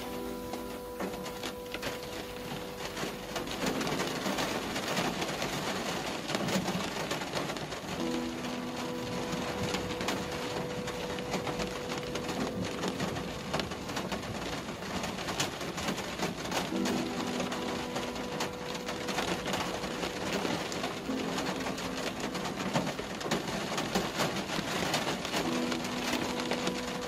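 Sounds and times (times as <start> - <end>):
rain on a car: 0.0 - 27.0
raindrops clicking on glass: 0.0 - 27.0.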